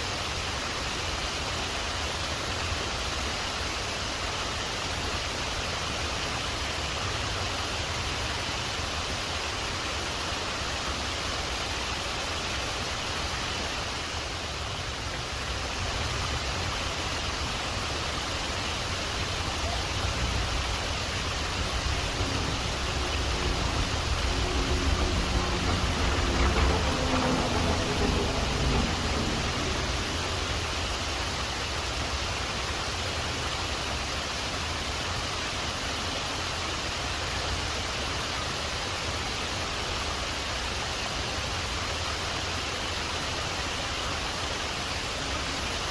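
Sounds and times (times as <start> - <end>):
waterfall roaring: 0.0 - 45.9.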